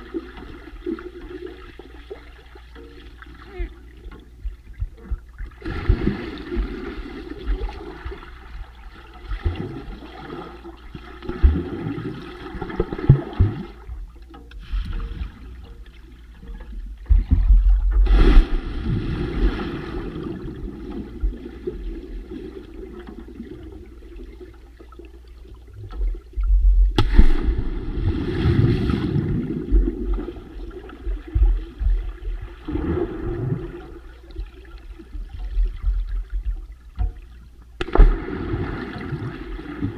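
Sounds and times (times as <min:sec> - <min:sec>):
underwater rushing and bubbling: 0:00.0 - 0:39.9.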